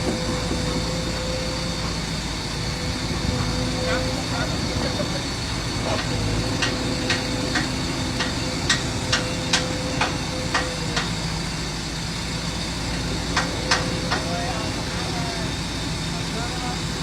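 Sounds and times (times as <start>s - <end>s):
construction machine engine running: 0.0s - 17.0s.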